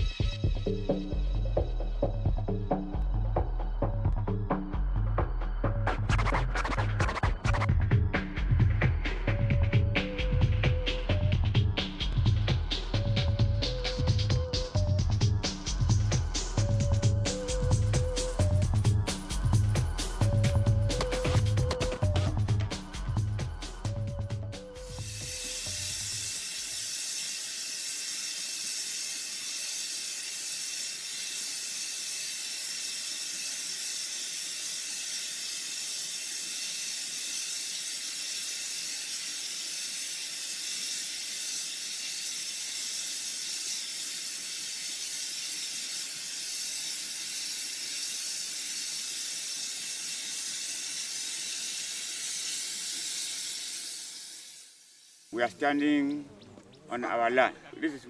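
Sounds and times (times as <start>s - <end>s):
oil wellhead spraying hiss: 6.0s - 56.2s.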